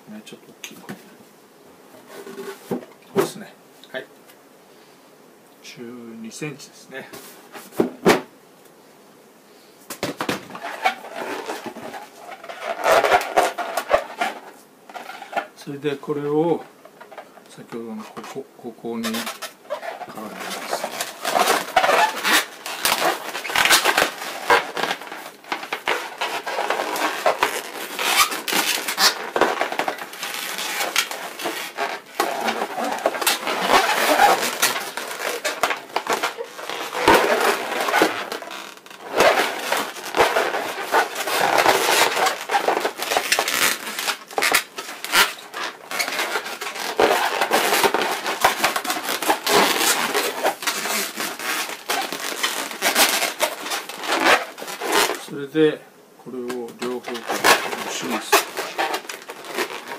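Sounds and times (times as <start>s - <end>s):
balloons squeaking and rubbing: 10.2s - 59.9s.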